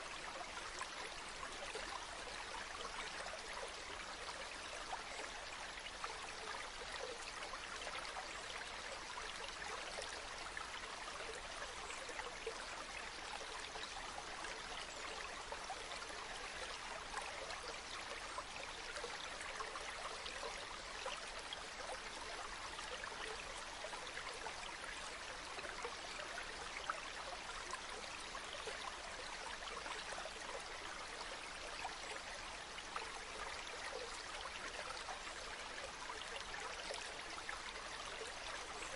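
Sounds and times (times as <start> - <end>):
water babbling in a stream: 0.0 - 38.9.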